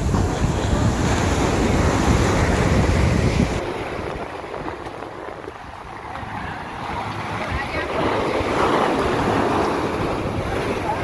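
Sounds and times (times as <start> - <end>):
ocean surf on a beach: 0.0 - 11.0
wind buffeting microphone: 0.0 - 11.0.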